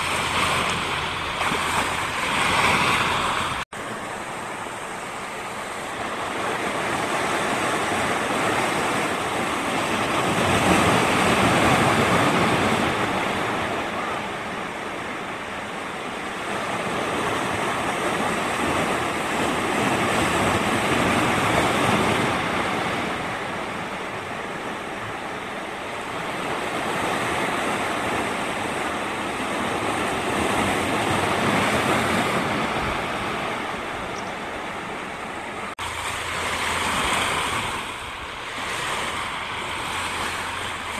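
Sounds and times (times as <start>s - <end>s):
ocean waves washing: 0.0s - 40.9s.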